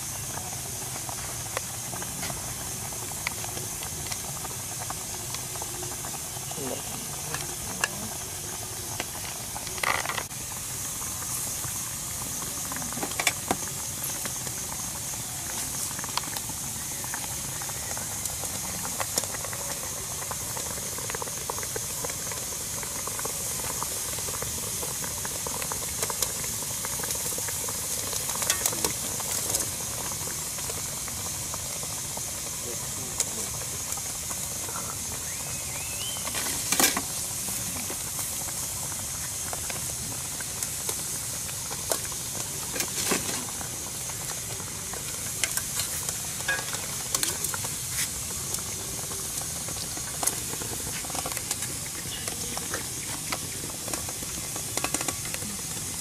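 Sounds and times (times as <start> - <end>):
liquid hissing and bubbling: 0.0 - 56.0.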